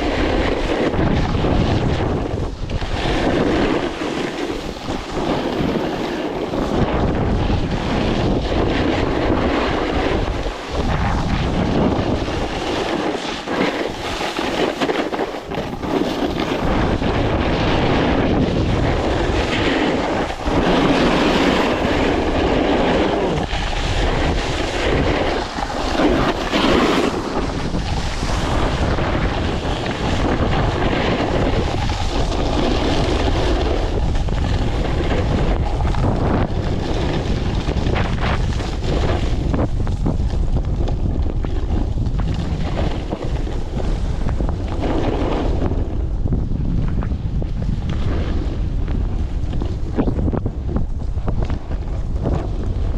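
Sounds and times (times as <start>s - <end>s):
blizzard wind buffeting microphone: 0.0s - 52.9s.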